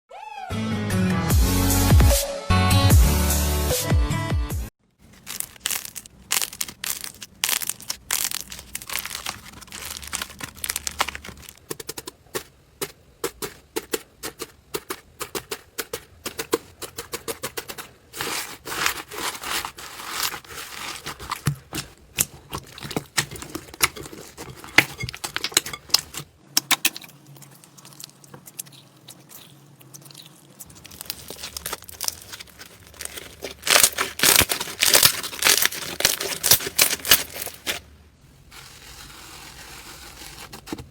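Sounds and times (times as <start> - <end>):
slime squishing with crackles: 4.9 - 40.9.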